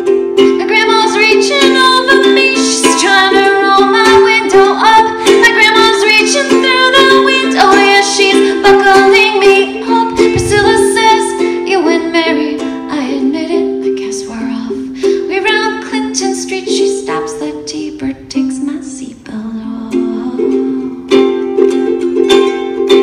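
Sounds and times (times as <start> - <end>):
ukulele strumming: 0.0 - 23.0
woman singing: 0.5 - 21.7.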